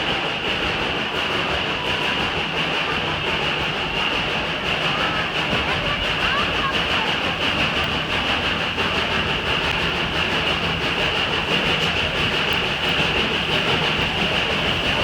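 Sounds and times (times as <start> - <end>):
train rumbling and rattling on rails: 0.0 - 15.0.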